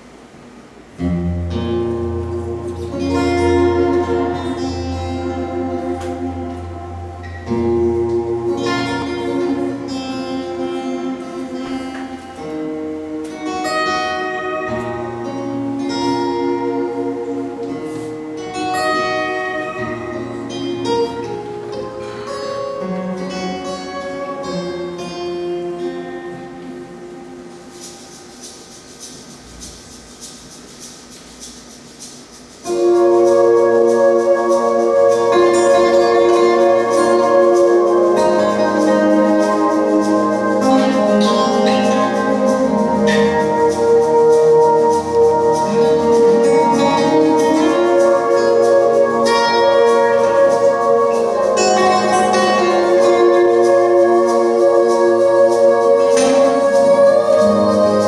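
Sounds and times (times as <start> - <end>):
plucked guitar notes: 0.8 - 29.6, 32.6 - 58.0.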